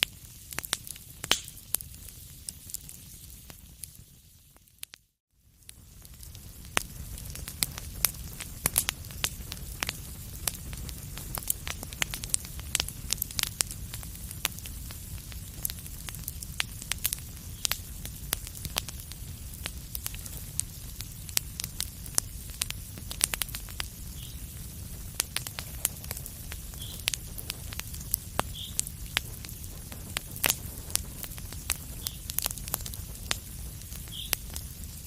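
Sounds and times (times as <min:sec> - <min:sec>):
low rumble of burning: 0:00.0 - 0:35.0
wood fire crackling and popping: 0:00.0 - 0:35.0.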